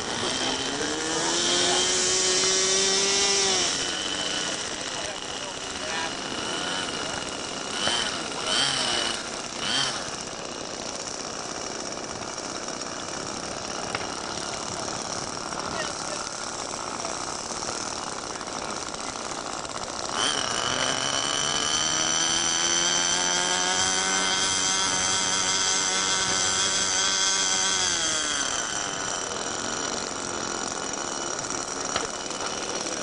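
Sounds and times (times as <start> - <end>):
model airplane engine revving: 0.0 - 33.0.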